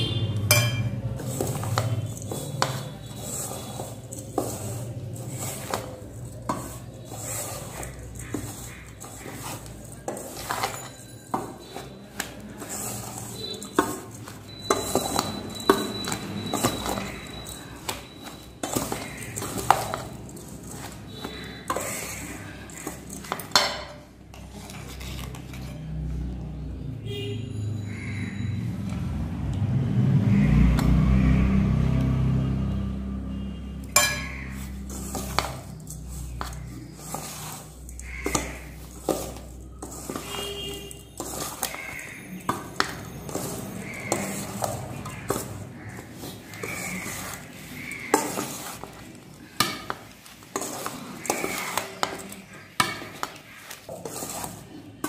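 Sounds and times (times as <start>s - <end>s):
metal spatula scraping bowl: 0.0s - 26.2s, 33.2s - 55.0s
spatula clinking against bowl: 0.4s - 24.5s, 33.8s - 55.0s.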